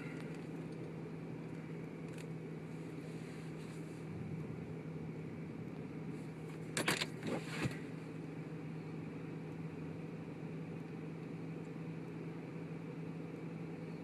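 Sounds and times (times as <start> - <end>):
car idling hum: 0.0 - 14.0.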